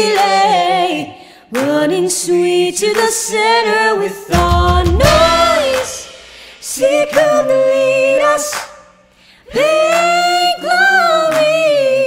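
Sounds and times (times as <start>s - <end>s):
voices singing in close harmony: 0.0s - 12.0s.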